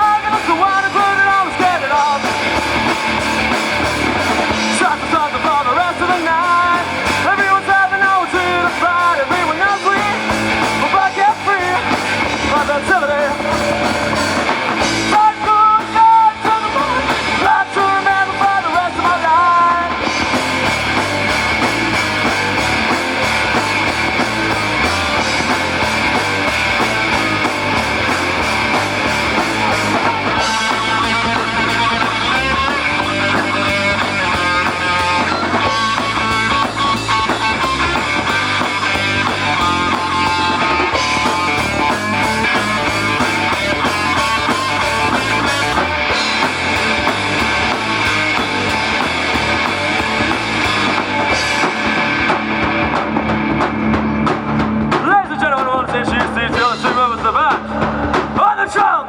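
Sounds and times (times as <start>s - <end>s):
melodic lead guitar line: 0.0s - 58.7s
live rock band playing: 0.0s - 59.0s.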